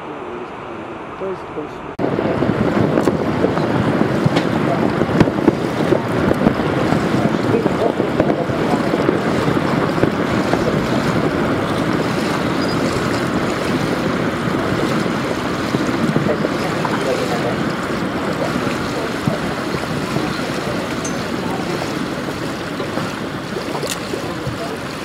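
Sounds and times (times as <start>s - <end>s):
wind buffeting microphone: 1.9s - 25.0s.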